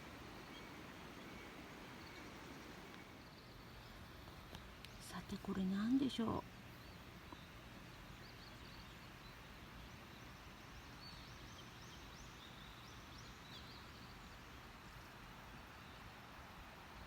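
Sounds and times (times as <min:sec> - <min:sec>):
small birds chirping: 0:00.0 - 0:16.2
steady background hiss: 0:00.0 - 0:17.0.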